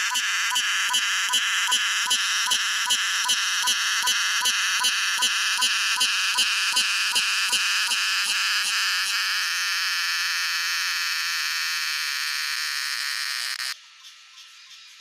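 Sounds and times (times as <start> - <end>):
cicada buzzing: 0.0 - 15.0.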